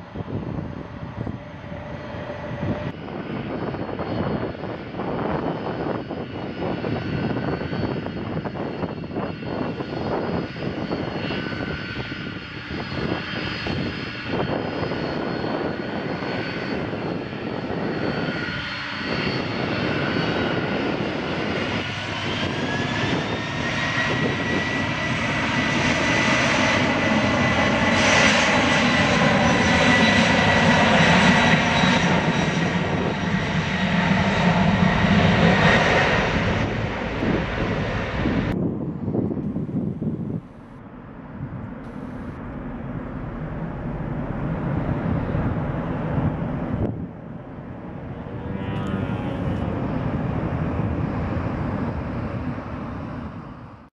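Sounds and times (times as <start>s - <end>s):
jet engines spooling up: 0.1s - 53.8s.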